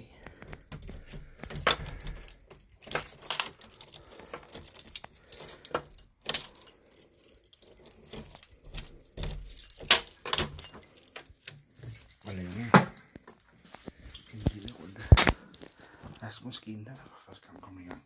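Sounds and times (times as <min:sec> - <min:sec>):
keys jangling: 0:00.0 - 0:15.8.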